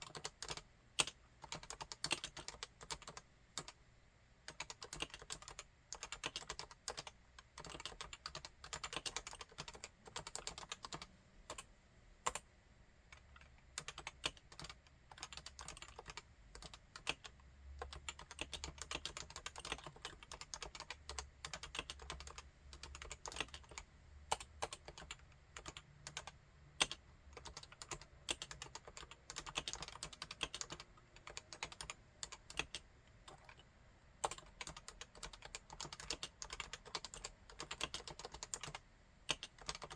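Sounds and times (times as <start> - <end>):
keyboard typing: 0.0 - 3.8, 4.5 - 11.7, 13.2 - 39.9.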